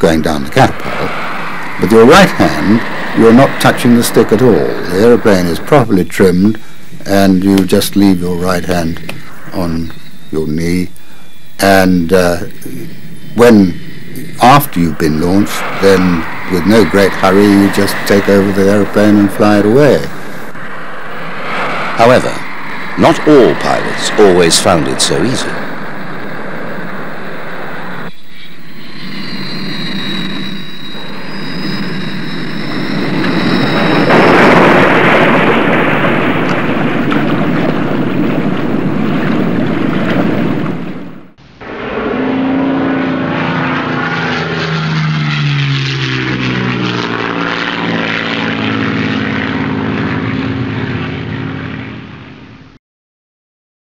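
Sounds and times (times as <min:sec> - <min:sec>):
jet engine rushing and whining: 0:00.0 - 0:52.8.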